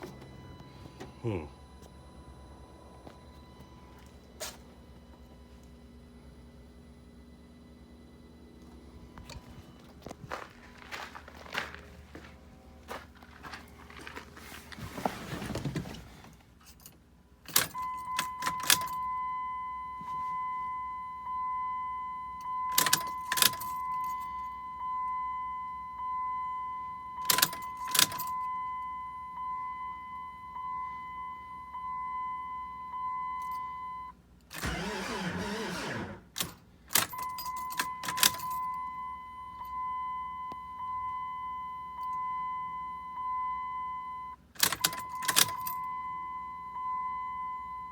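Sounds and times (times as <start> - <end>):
vehicle warning chime: 0.0 - 14.6, 17.5 - 47.9.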